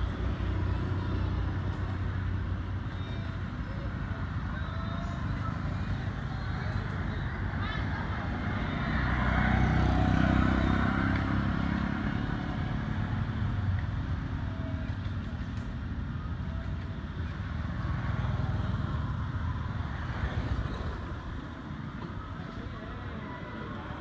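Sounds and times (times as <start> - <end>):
vehicle engine rumble passing: 0.0 - 24.0.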